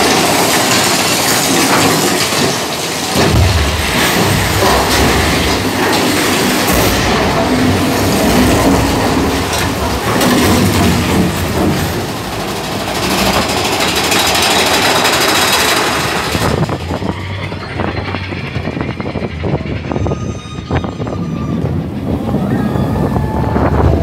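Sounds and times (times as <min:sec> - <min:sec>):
rapid rattle of wheel clacks: 0:00.0 - 0:24.0
roller coaster rumbling on track: 0:00.0 - 0:24.0.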